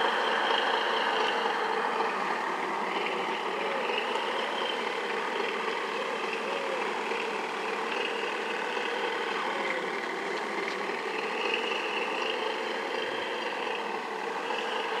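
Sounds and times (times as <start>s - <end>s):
model boat motors humming: 0.0s - 15.0s.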